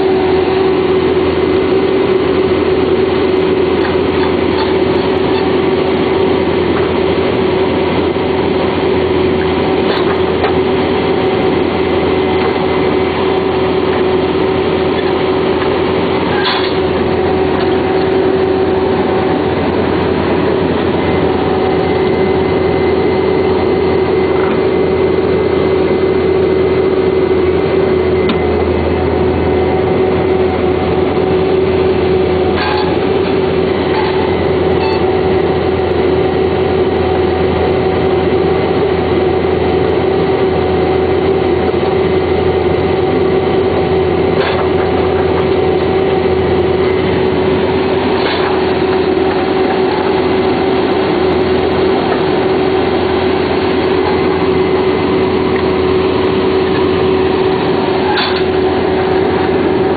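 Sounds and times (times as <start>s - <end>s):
diesel engine and hydraulics running: 0.0s - 59.9s.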